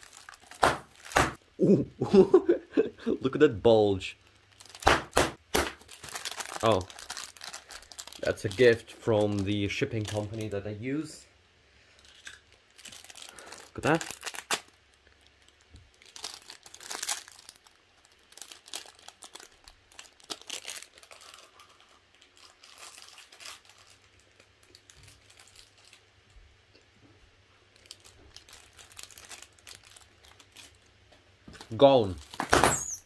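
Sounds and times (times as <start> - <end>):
plastic wrapper crinkling and tearing: 0.0 - 1.4, 4.0 - 10.6, 11.9 - 26.3, 27.6 - 32.6.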